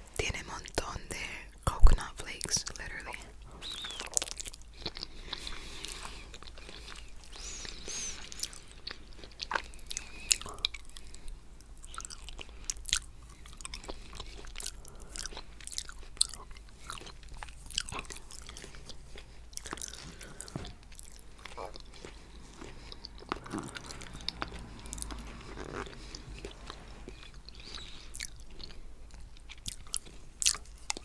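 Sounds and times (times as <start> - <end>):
wet chewing mouth clicks: 1.8 - 31.0.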